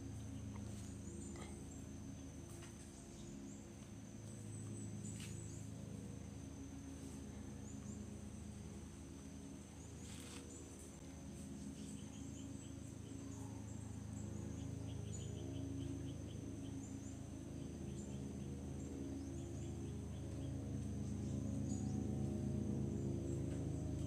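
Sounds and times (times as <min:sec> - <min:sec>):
insects trilling: 0:00.0 - 0:24.0
low steady hum: 0:00.0 - 0:24.0.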